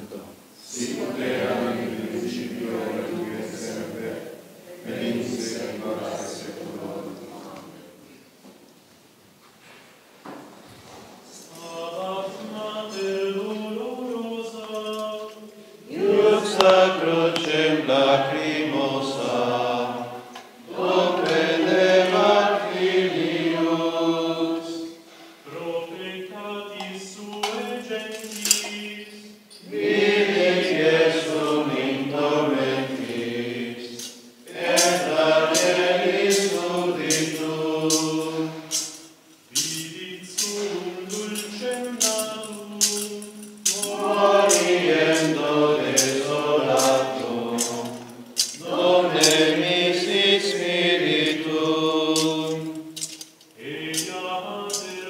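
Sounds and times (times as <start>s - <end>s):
men singing a hymn in unison: 0.6s - 7.3s, 11.3s - 55.0s.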